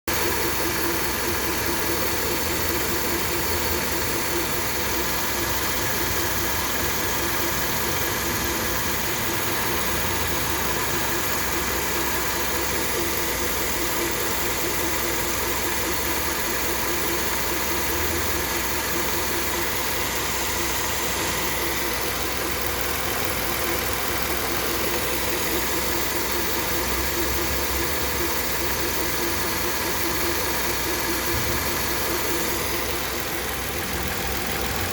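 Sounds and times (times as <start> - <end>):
car engine idling: 0.1 - 34.9
radiator cooling fan running: 0.1 - 34.9.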